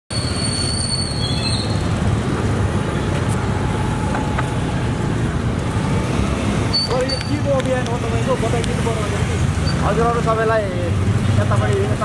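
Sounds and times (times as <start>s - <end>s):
street traffic rumble: 0.1s - 12.0s.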